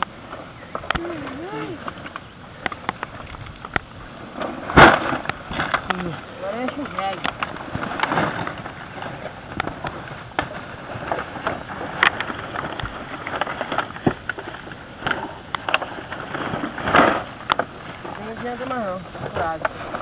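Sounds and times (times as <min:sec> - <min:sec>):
rustling and crackling: 0:00.0 - 0:20.0.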